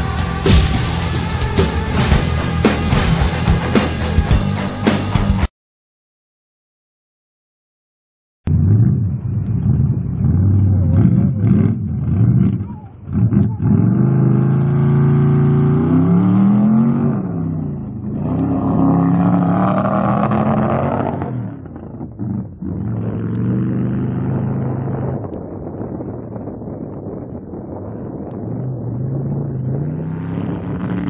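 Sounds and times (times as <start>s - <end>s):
truck engine revving: 0.0s - 5.4s, 8.5s - 31.0s.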